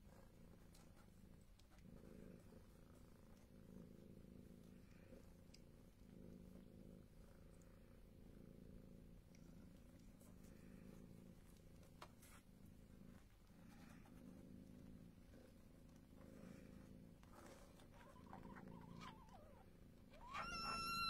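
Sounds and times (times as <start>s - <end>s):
cat purring faintly: 0.0s - 21.0s.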